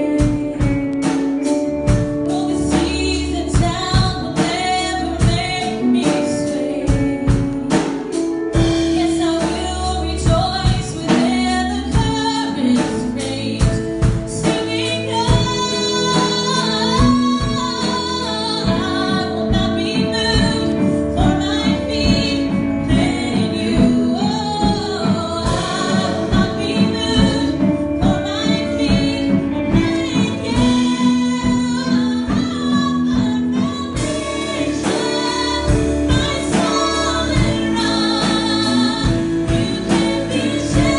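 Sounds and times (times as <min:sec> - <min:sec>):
instrumental accompaniment with beat: 0:00.0 - 0:40.9
woman singing: 0:00.0 - 0:40.9.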